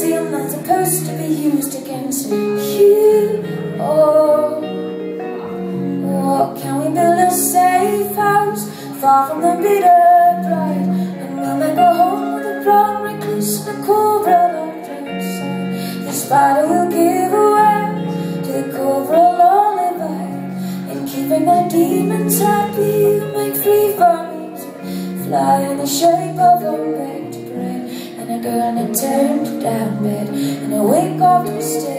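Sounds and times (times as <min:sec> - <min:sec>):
acoustic guitar chords: 0:00.0 - 0:31.9
woman singing: 0:00.0 - 0:31.9.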